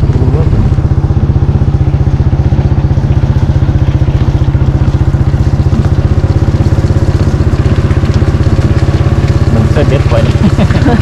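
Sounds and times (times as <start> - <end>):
small engine puttering: 0.0 - 11.0.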